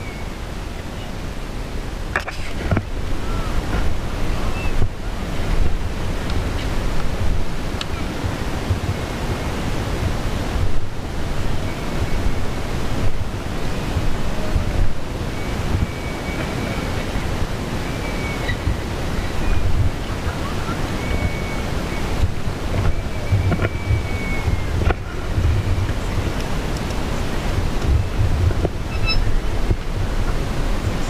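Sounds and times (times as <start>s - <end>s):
wind buffeting camera case: 2.0s - 9.2s, 10.0s - 17.1s, 18.0s - 20.2s, 21.0s - 31.0s.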